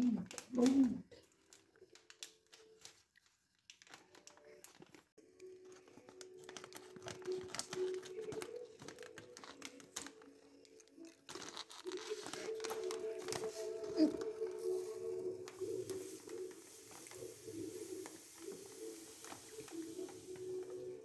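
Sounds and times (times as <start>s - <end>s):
plastic pouch crinkling: 0.0s - 21.0s.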